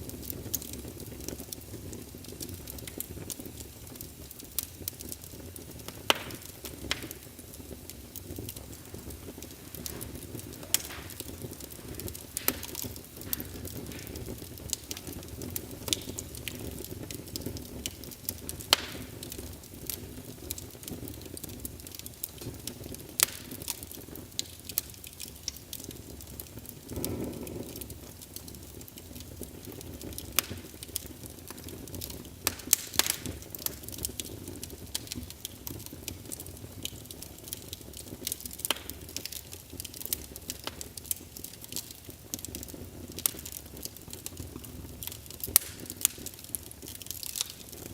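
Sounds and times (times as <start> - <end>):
fire burning: 0.0 - 47.9
fire crackling and popping: 0.0 - 47.9.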